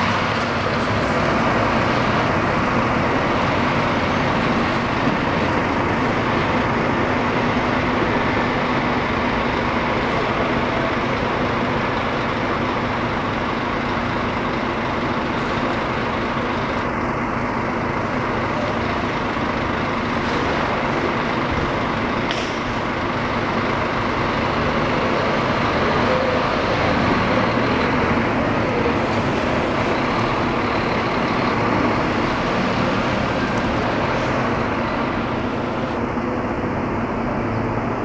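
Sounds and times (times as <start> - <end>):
bus diesel engine drone: 0.0 - 38.0.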